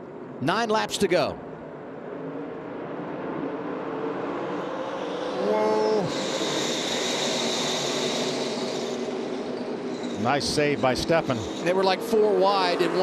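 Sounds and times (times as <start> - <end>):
race trucks engine drone: 1.9 - 13.0.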